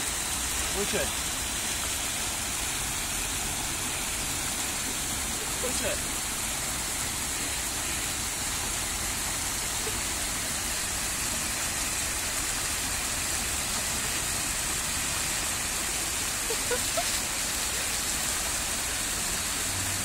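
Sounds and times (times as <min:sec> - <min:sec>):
water rushing down steps: 0:00.0 - 0:20.0.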